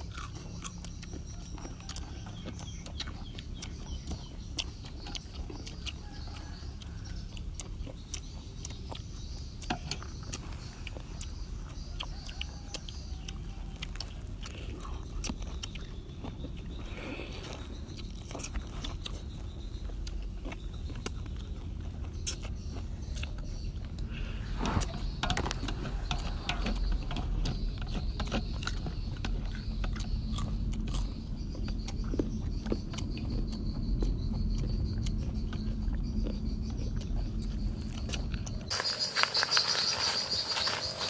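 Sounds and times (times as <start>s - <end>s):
crunching and chewing food: 0.0s - 41.0s
steady low rumble: 0.0s - 41.0s.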